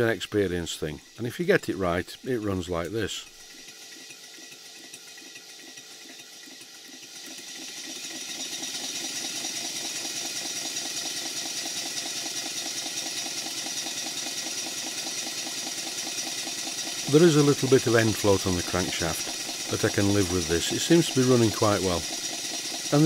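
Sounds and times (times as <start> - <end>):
model steam engine clattering: 0.0 - 23.0.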